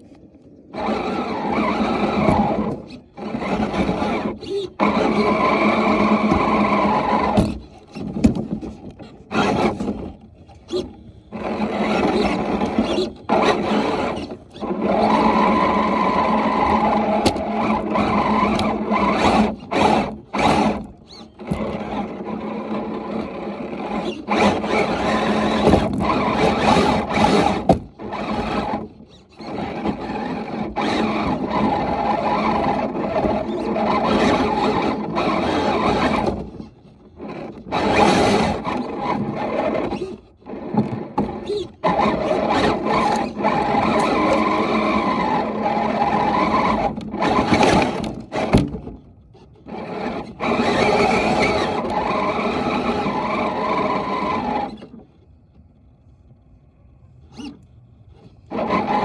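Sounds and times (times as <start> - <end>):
electric motor whining: 0.7 - 8.1, 9.2 - 48.1, 49.7 - 55.0.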